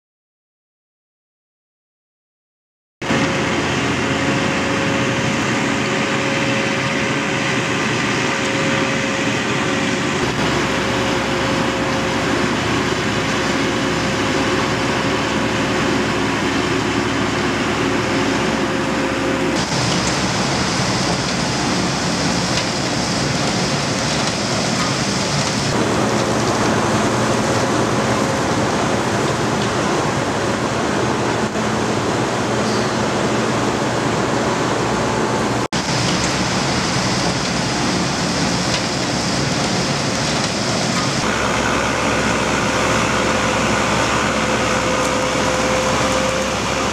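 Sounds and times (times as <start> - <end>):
road milling machine running: 3.0 - 46.9
asphalt pouring into truck: 3.1 - 31.6, 35.8 - 46.9.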